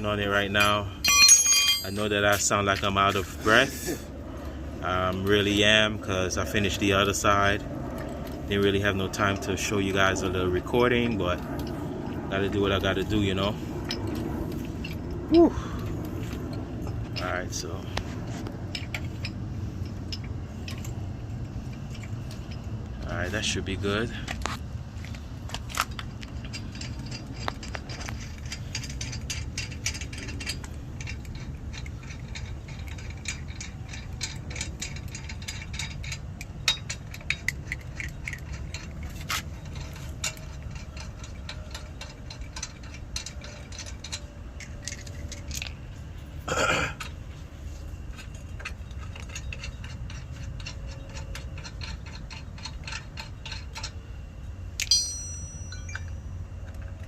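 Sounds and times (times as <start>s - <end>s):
metal tools clinking: 0.0s - 3.7s, 5.1s - 45.9s, 48.0s - 57.0s
low background rumble: 0.0s - 57.0s.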